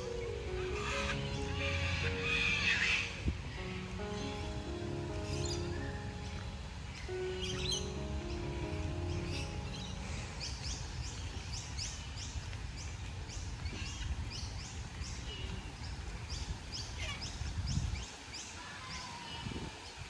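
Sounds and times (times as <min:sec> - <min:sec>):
birds chirping: 0:00.0 - 0:19.1.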